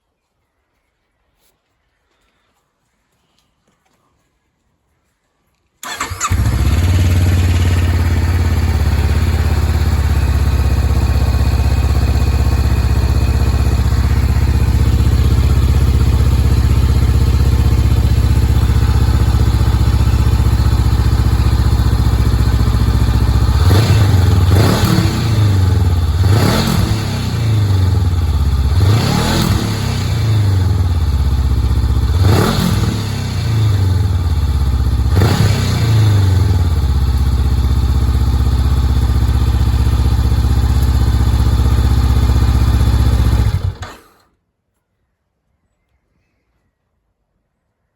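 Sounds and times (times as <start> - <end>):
motorcycle engine idling and revving: 5.8 - 44.2.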